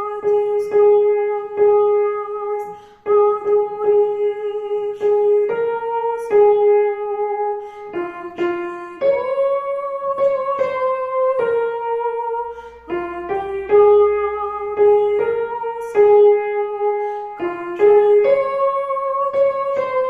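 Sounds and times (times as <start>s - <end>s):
slow melody of held notes: 0.0s - 20.0s.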